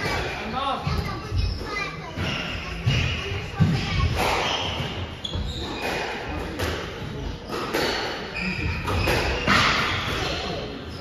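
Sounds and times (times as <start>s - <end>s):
rackets striking squash ball: 0.0s - 11.0s.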